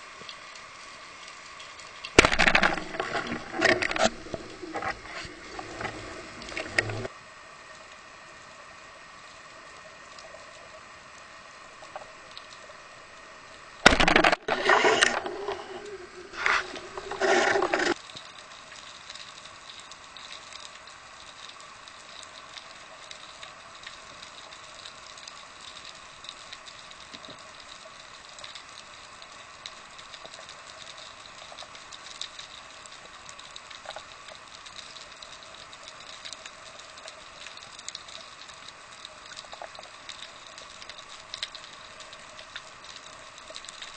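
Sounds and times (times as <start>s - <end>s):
underwater clicking crackle: 0.0s - 7.1s, 7.7s - 43.9s.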